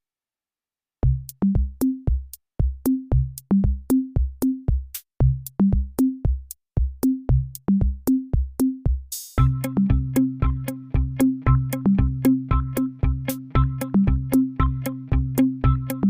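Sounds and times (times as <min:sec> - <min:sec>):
drum machine beat: 0:01.0 - 0:16.0.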